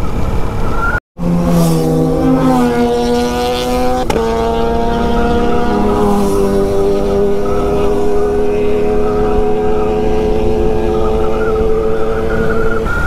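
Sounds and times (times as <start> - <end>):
motorcycle engine cruising: 1.2 - 13.0.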